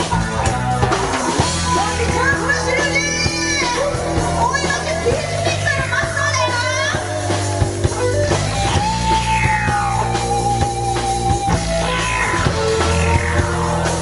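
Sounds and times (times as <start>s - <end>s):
bass guitar: 0.0s - 14.0s
drum kit: 0.0s - 14.0s
electric guitar: 0.0s - 14.0s.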